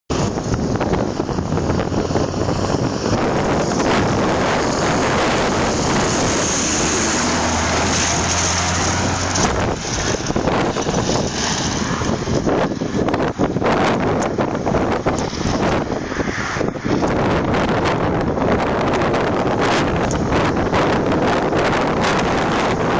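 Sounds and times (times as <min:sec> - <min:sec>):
truck engine drone: 0:00.1 - 0:22.9
wind noise on microphone: 0:00.1 - 0:22.9.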